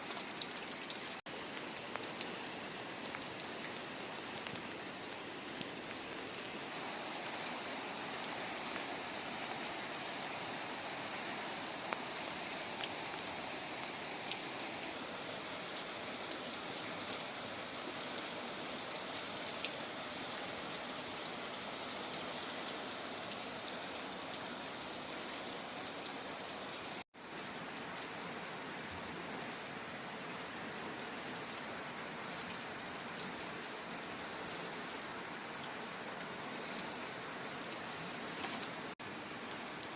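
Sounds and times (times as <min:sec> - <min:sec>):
rushing water: 0:00.0 - 0:39.9
small ticks and drips: 0:00.0 - 0:39.9.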